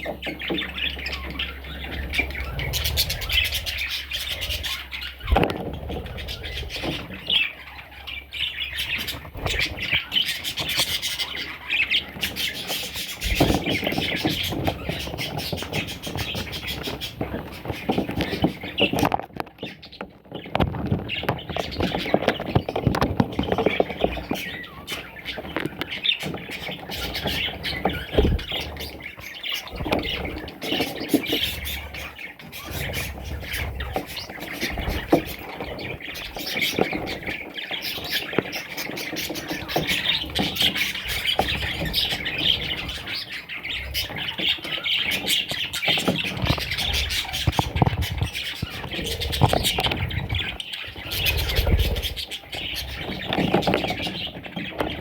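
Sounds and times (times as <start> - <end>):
parrots chattering and squawking: 0.0 - 55.0.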